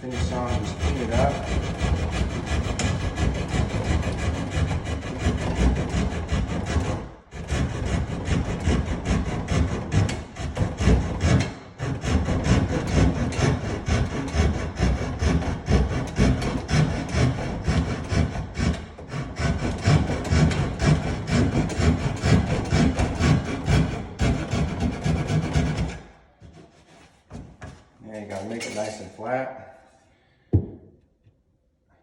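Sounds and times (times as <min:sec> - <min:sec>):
hand saw sawing wood: 0:00.0 - 0:29.0.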